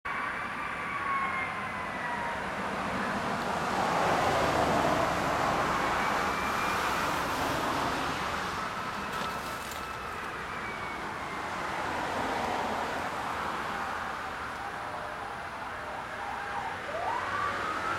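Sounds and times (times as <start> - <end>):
fire engine siren wailing: 0.1 - 17.9.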